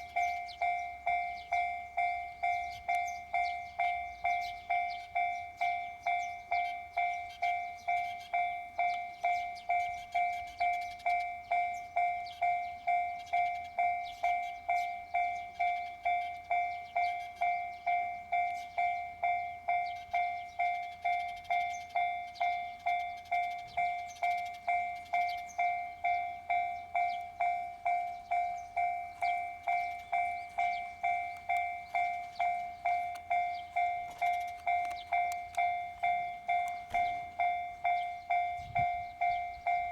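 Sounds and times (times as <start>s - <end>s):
level-crossing bell dinging: 0.0s - 39.9s.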